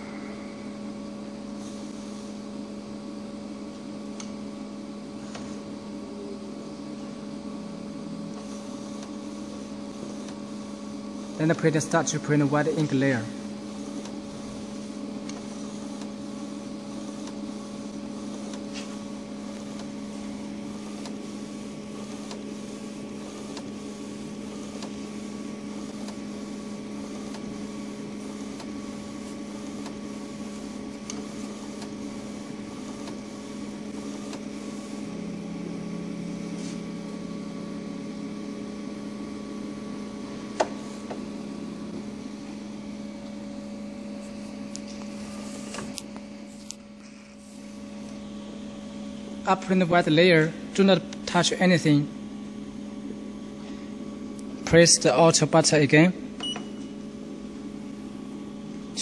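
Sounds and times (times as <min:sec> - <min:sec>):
printer machine hum: 0:00.0 - 0:59.0.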